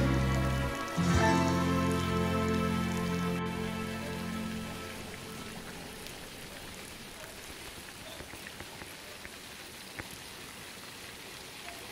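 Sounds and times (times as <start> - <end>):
small drips and ticks: 0.0 - 1.2, 1.9 - 11.9
stream water hissing: 0.0 - 11.9.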